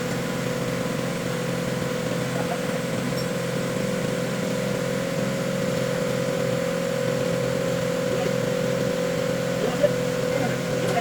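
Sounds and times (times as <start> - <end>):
machine humming steadily: 0.0 - 11.0.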